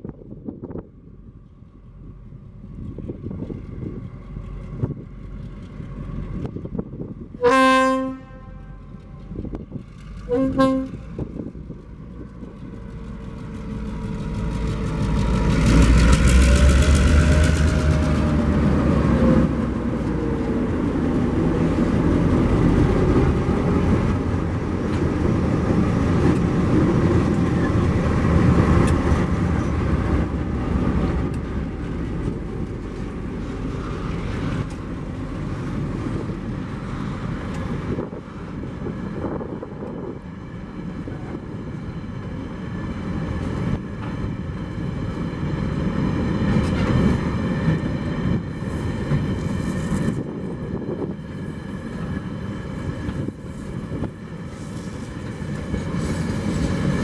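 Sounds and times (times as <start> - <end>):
diesel locomotive engines: 0.0 - 57.0
train wagons rumbling on rails: 0.0 - 57.0.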